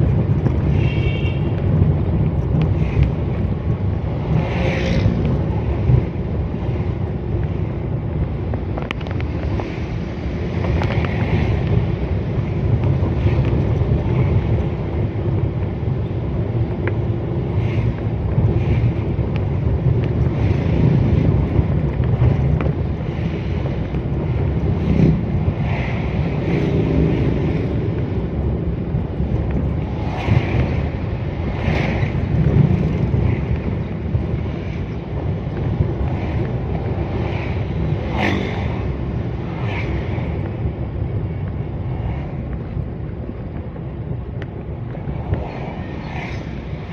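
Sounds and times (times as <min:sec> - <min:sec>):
vehicle engine and tyre rumble: 0:00.0 - 0:46.9
wind noise on microphone: 0:00.0 - 0:46.9.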